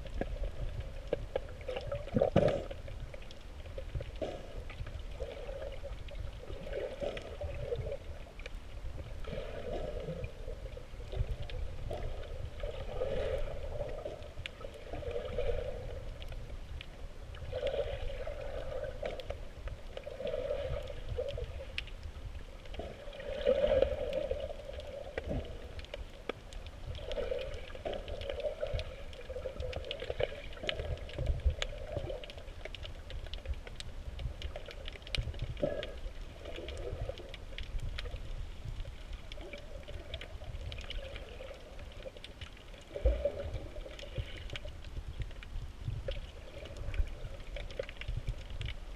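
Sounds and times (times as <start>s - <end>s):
muffled water swish: 0.0s - 48.9s
underwater rumble of moving water: 0.0s - 48.9s.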